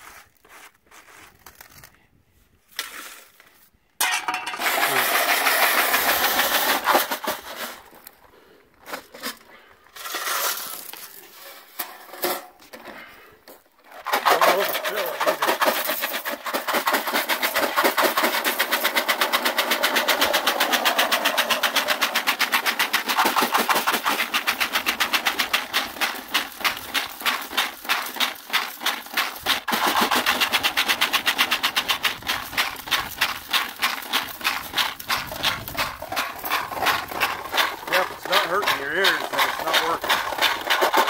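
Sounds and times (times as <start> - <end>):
gravel rattling in shaken metal box: 4.0 - 41.0.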